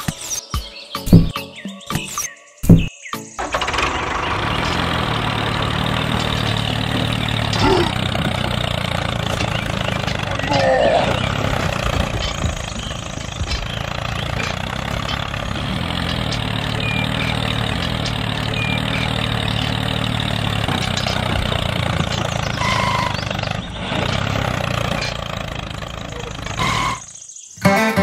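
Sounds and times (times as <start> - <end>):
tractor engine running: 1.1 - 1.4, 2.7 - 28.0.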